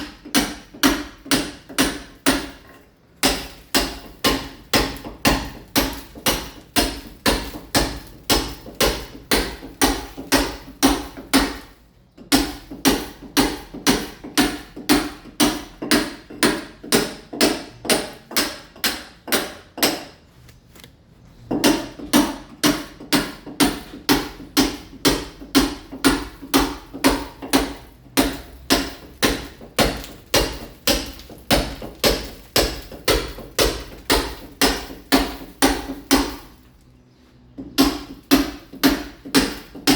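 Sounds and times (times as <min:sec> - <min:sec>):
hammer striking masonry wall: 0:00.0 - 0:20.2, 0:21.4 - 0:39.9.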